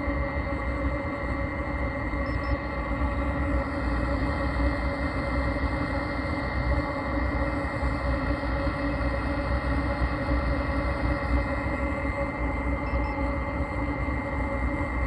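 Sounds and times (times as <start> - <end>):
heater blower and burner hum: 0.0 - 15.0.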